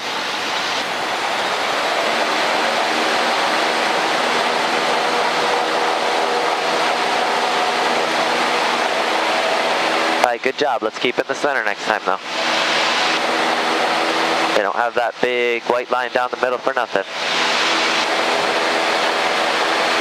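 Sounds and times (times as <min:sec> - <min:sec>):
light aircraft engine and propeller: 0:00.0 - 0:20.0.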